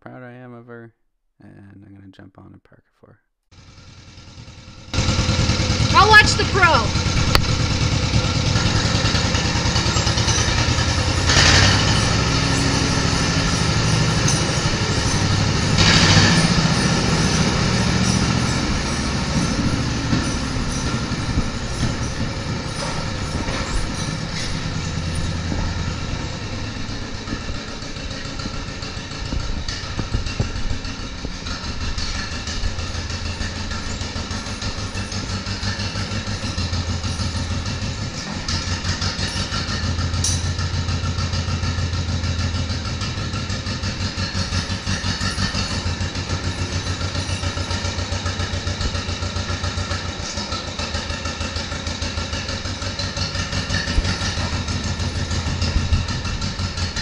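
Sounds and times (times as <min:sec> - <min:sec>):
tractor engine running: 0:03.5 - 0:57.0.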